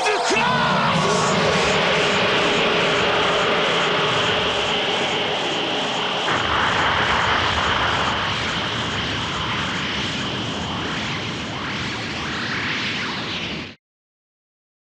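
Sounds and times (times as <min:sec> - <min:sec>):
rising sweeps: 0:00.1 - 0:13.8
steady rushing noise: 0:00.3 - 0:13.8.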